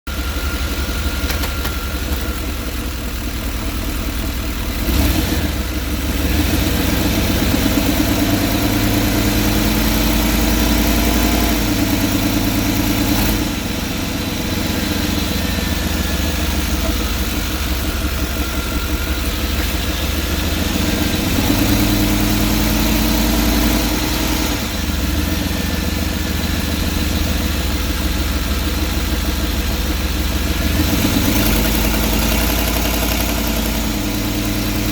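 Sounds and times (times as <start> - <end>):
van engine revving: 0.1 - 34.9.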